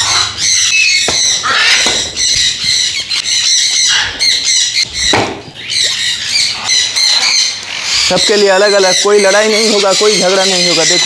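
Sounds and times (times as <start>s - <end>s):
parrots squawking and screeching: 0.0s - 11.0s.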